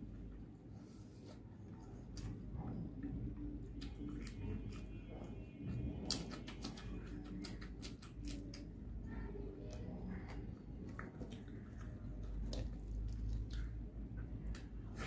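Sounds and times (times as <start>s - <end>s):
chewing food: 1.3s - 15.0s.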